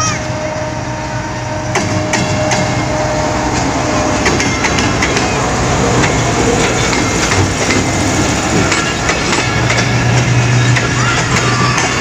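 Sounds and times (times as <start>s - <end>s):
locomotive engine droning: 0.0s - 12.0s
wheels clattering over rail joints: 1.7s - 12.0s.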